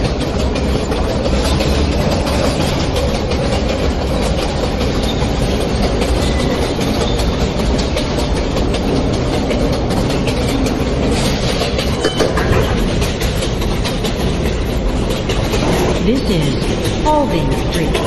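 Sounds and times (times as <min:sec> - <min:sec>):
rail joints clattering: 0:00.0 - 0:18.0
subway train wheels rumbling: 0:00.0 - 0:18.0.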